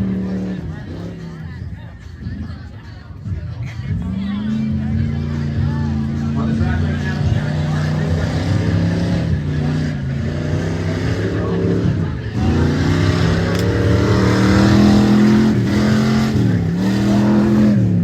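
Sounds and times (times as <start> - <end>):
racing truck engines revving: 0.0 - 18.0.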